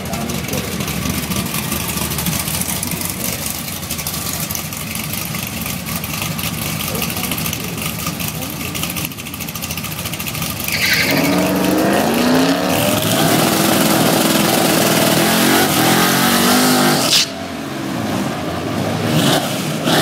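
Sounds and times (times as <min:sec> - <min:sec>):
quieter engine sound: 0:00.0 - 0:16.2
drag car engines revving: 0:00.0 - 0:20.0.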